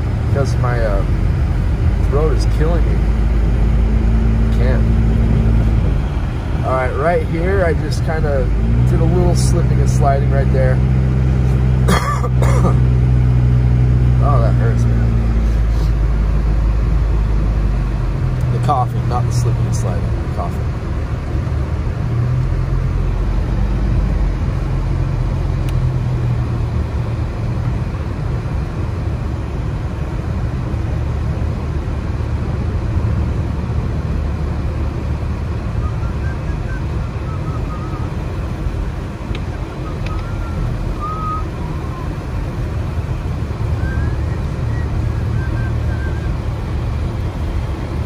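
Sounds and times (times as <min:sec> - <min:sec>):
vehicle rumble inside cabin: 0:00.0 - 0:48.0.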